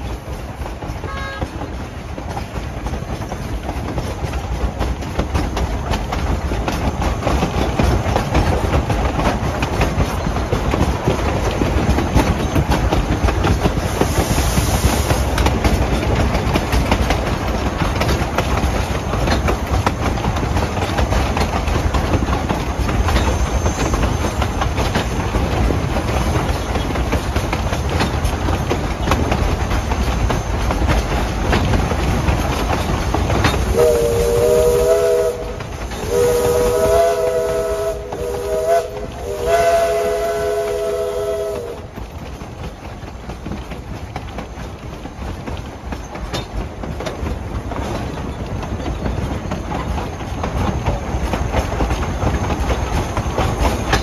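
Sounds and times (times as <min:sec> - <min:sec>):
train rumble and clickety-clack: 0:00.0 - 0:54.0.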